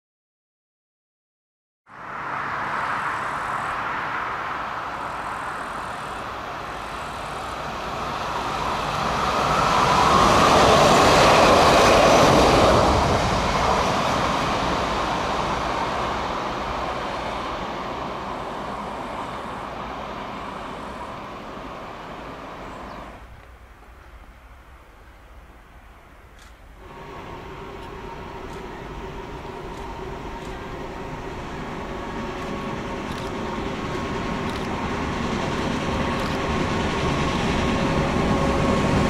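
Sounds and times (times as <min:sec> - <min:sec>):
train rumbling past: 0:01.9 - 0:39.0.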